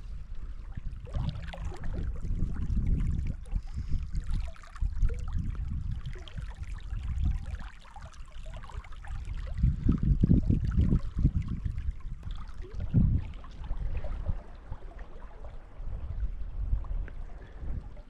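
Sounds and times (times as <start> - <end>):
stream running over its bed: 0.0 - 18.0.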